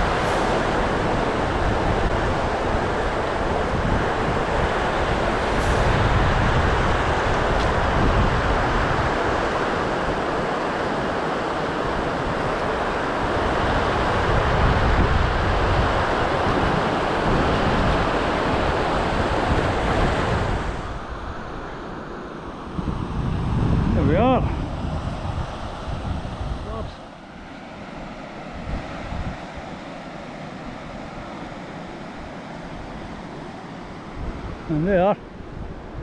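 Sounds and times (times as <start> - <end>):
wind buffeting microphone: 0.0 - 21.9, 22.6 - 31.5, 34.0 - 36.0.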